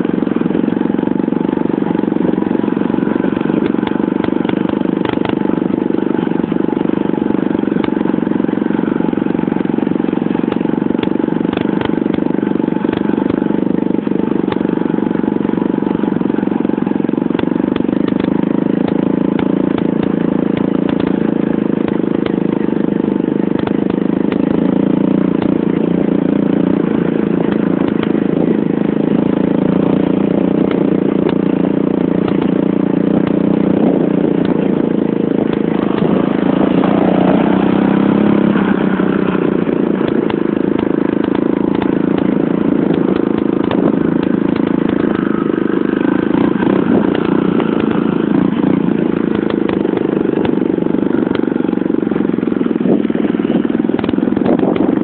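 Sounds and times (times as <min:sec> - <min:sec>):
pit bike engine running: 0:00.0 - 0:55.0
small engines of other vehicles: 0:00.0 - 0:55.0.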